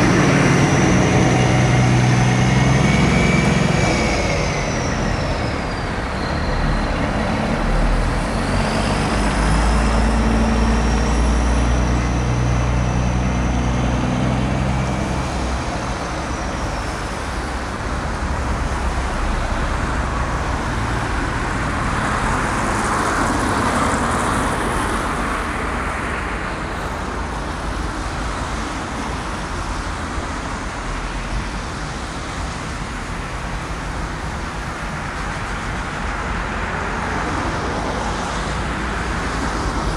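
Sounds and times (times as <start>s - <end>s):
diesel truck engine rumble: 0.0s - 39.9s
traffic and tyre noise: 0.0s - 39.9s.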